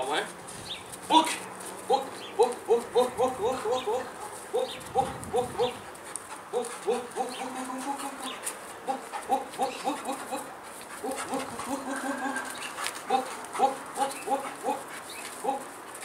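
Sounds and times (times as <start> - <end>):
dog yelping excitedly: 1.3 - 15.8.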